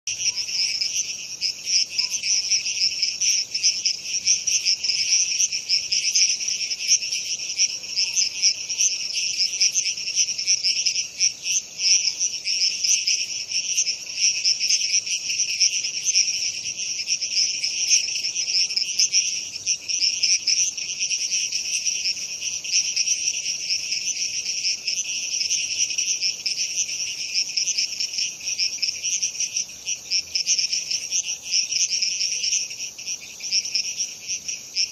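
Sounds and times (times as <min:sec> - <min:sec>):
crickets chirping: 0:00.1 - 0:34.9
frogs calling: 0:00.1 - 0:34.9.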